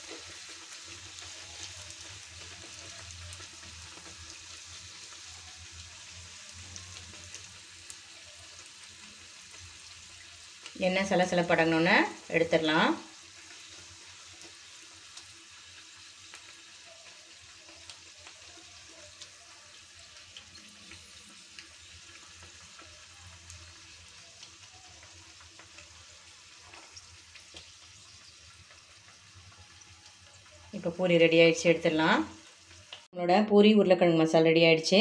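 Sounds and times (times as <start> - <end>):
oil sizzling with small pops: 0.0 - 33.2.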